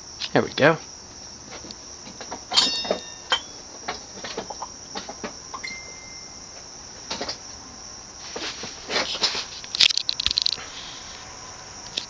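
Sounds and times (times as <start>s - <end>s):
ceiling fan whining: 0.0s - 12.0s.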